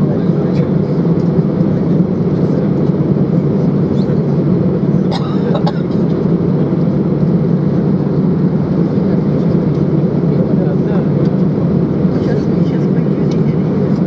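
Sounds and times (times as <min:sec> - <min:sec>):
aircraft cabin noise: 0:00.0 - 0:14.0.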